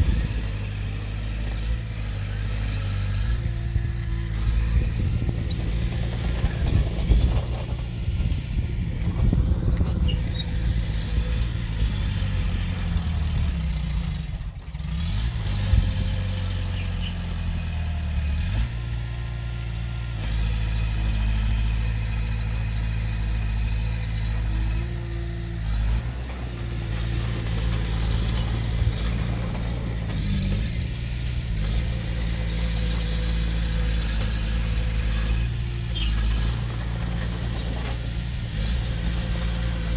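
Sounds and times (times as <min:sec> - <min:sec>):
diesel engine under varying load: 0:00.0 - 0:39.9.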